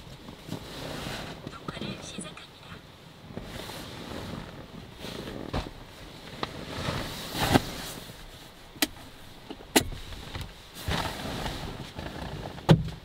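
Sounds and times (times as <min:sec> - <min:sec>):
rustling: 0:00.0 - 0:01.5, 0:03.2 - 0:13.0.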